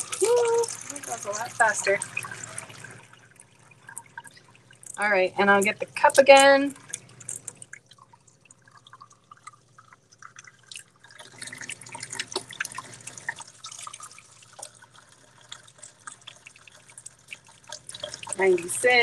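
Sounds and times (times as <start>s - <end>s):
faucet running into a plastic cup: 0.0s - 19.0s
water spattering and dripping: 0.0s - 19.0s.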